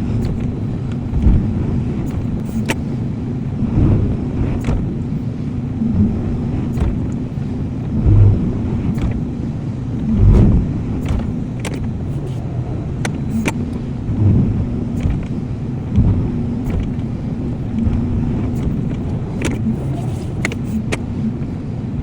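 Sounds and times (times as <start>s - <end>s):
heavy thuds: 0.0s - 21.2s
excavator engine running: 0.0s - 22.0s.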